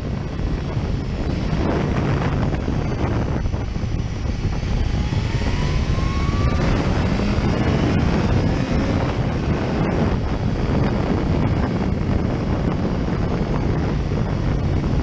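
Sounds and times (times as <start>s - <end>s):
motorcycle engine accelerating: 0.0s - 15.0s
wind rushing over microphone: 0.0s - 15.0s.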